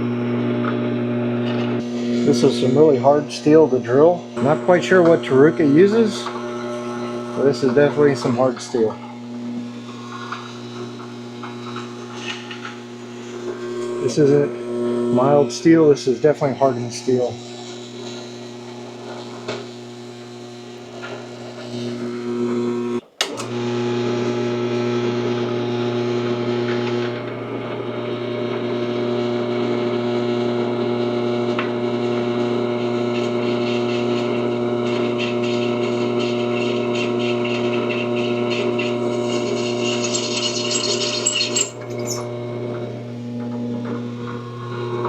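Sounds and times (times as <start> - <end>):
drill press humming: 0.0 - 45.0.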